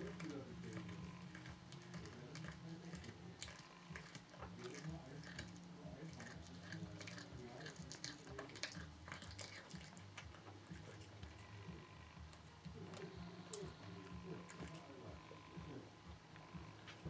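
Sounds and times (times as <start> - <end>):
cat chewing wet crunches: 0.0 - 15.3.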